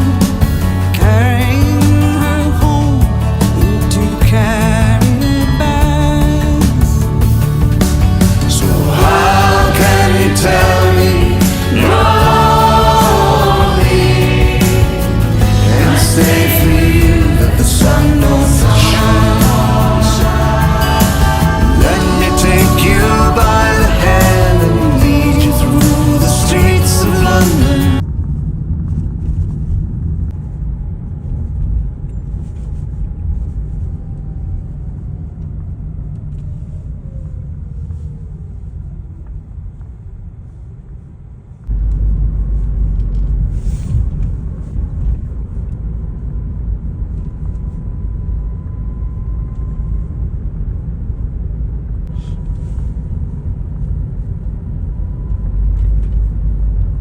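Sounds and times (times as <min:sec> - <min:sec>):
faint falling whine: 0:00.0 - 0:57.0
low fluctuating rumble: 0:00.0 - 0:57.0.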